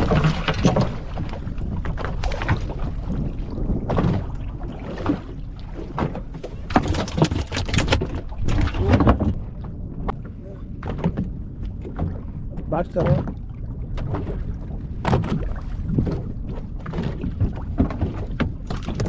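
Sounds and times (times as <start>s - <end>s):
knocks and thuds on boat: 0.0s - 19.0s
water splashing against boat: 0.0s - 19.0s
wind rumble on microphone: 0.0s - 19.0s.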